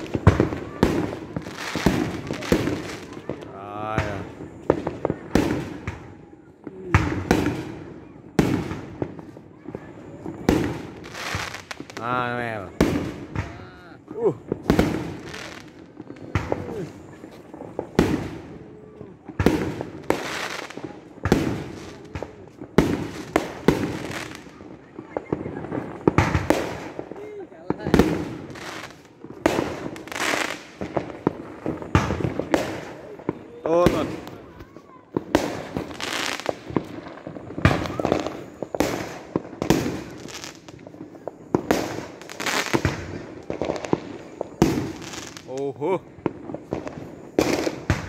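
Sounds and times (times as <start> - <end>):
firework crackling: 0.0 - 48.0.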